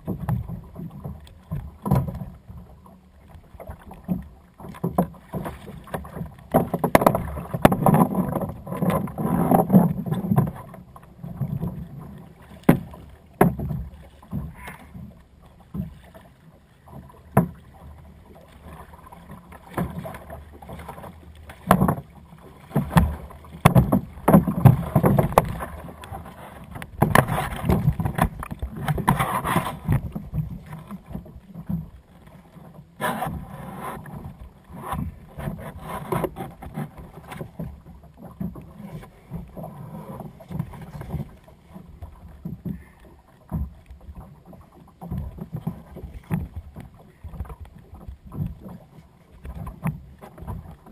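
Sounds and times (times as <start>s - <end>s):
water lapping at hull: 0.0s - 50.9s
knocks and rubbing on plastic kayak: 3.6s - 16.2s, 16.9s - 31.9s, 32.6s - 50.9s.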